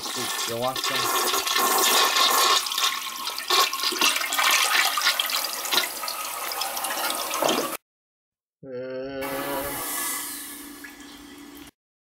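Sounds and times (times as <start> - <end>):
toilet flushing: 0.0 - 7.8, 9.6 - 11.7.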